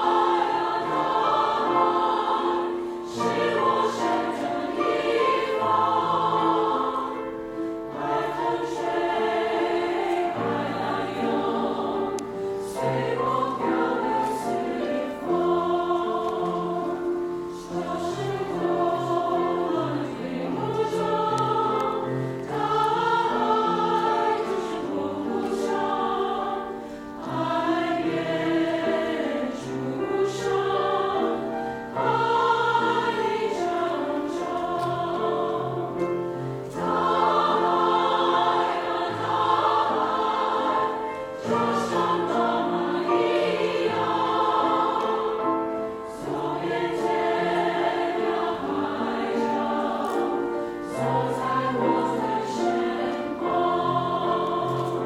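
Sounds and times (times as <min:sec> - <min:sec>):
choir singing in harmony: 0:00.0 - 0:55.0
grand piano: 0:00.0 - 0:55.0.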